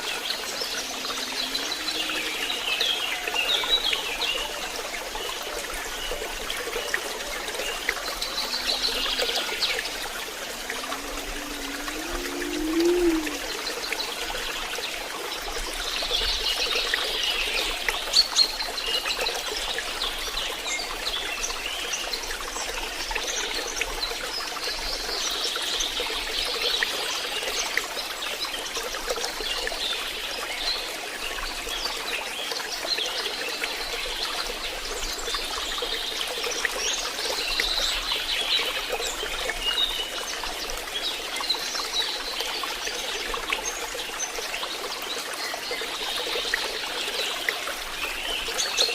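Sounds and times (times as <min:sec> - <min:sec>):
stream water trickling: 0:00.0 - 0:48.9.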